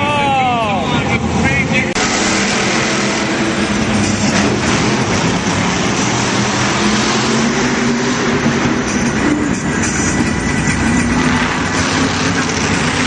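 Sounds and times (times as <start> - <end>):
monster truck engine running: 1.0 - 13.0.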